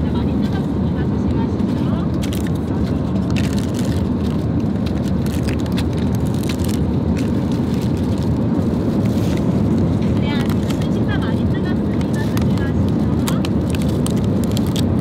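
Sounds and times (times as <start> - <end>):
airliner cabin drone: 0.0 - 15.0
paper and plastic crinkling: 2.1 - 15.0.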